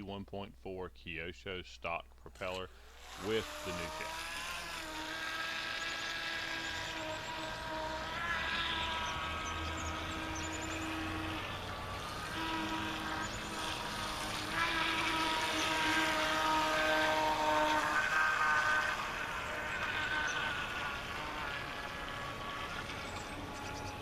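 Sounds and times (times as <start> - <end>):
electric motor whining: 2.2 - 24.0.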